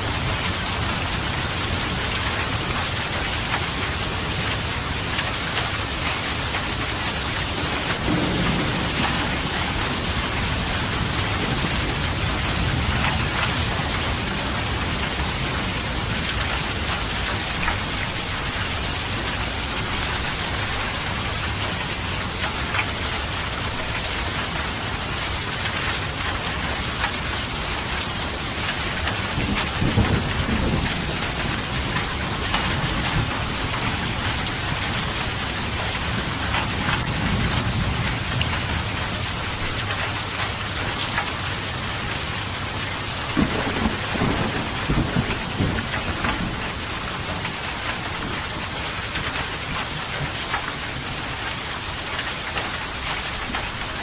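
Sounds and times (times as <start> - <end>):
low rumbles of thunder: 0.0 - 24.7, 26.0 - 51.5
steady rain falling: 0.0 - 54.0.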